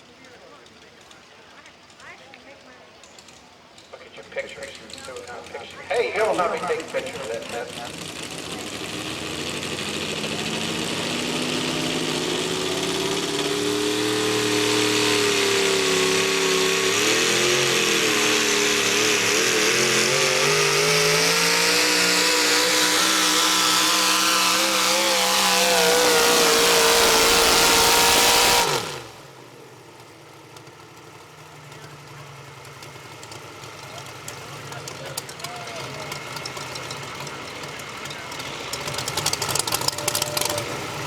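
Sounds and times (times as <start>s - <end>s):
truck engine running flat out: 0.0s - 41.0s.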